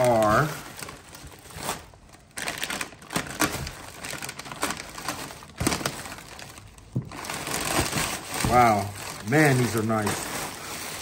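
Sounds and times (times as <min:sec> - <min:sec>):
plastic packing crinkling: 0:00.0 - 0:11.0.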